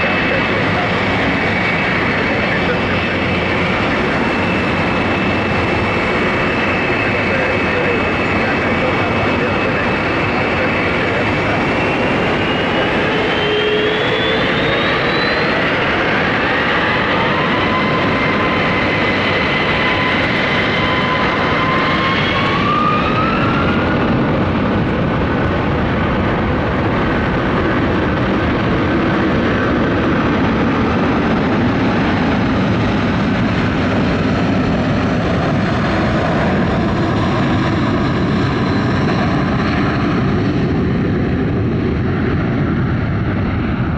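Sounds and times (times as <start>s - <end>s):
jet engine whine: 0.0s - 43.9s
jet engines roaring: 0.0s - 43.9s.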